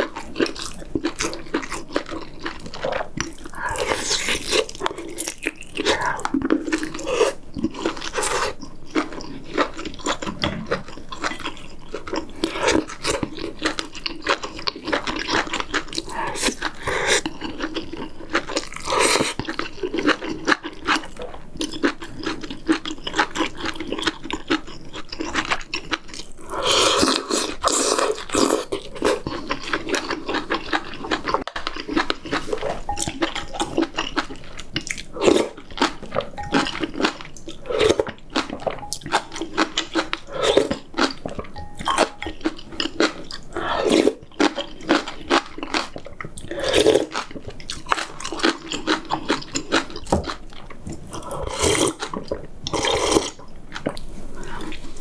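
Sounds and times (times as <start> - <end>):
wet chewing: 0.0 - 55.0.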